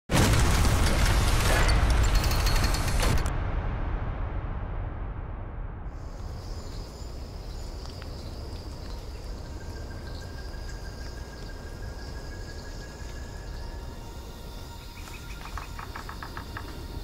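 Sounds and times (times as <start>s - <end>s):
low rumble: 0.2s - 14.2s.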